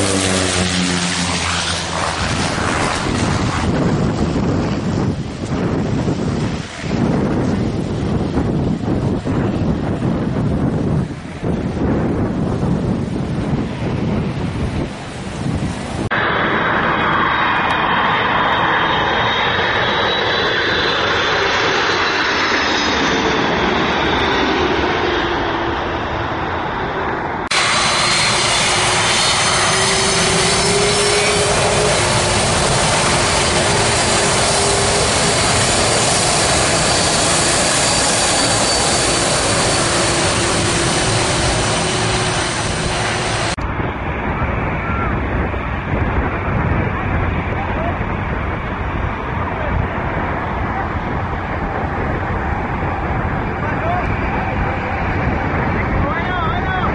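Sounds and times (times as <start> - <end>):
jet engine whine: 0.0 - 56.9
jet engines passing overhead: 0.0 - 56.9.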